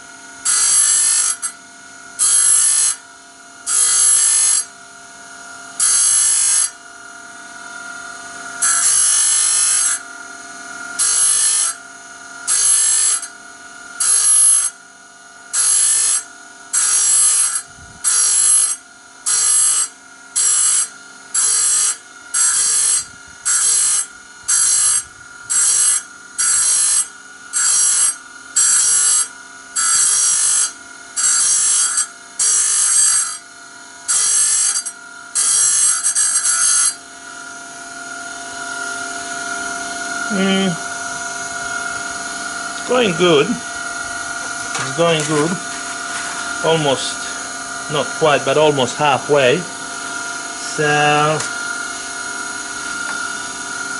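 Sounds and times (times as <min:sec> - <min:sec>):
grinding rasp on saw blade: 0:00.0 - 0:04.8, 0:05.7 - 0:14.8, 0:15.4 - 0:53.9
grinder motor running: 0:00.0 - 0:53.9.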